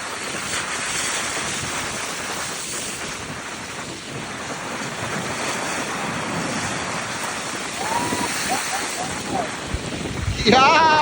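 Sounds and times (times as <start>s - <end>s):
surf breaking on rocky shore: 0.0s - 11.0s
wind buffeting microphone: 0.0s - 11.0s.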